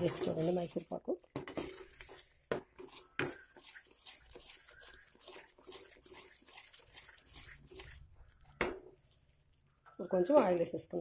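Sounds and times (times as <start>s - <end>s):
spoon stirring thick batter: 0.0s - 9.8s.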